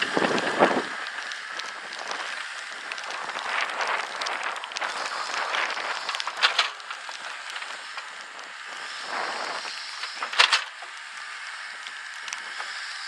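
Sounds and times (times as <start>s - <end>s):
dirt crunching and crumbling: 0.0s - 12.8s.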